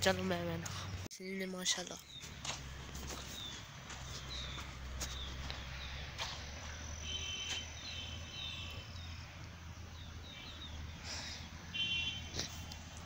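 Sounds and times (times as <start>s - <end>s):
small birds chirping: 0.1s - 12.8s.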